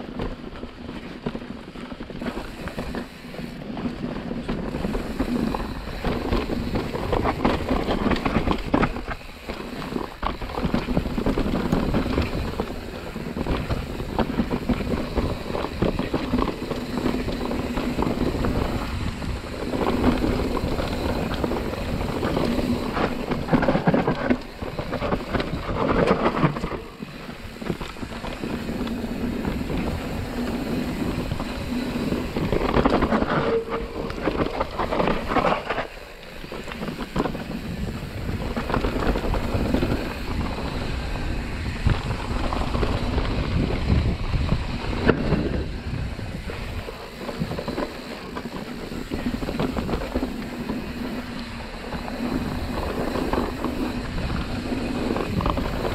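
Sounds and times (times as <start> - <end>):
bike rattling over bumps: 0.0 - 55.9
tyres rolling over dirt: 0.0 - 55.9
wind noise on microphone: 0.0 - 55.9.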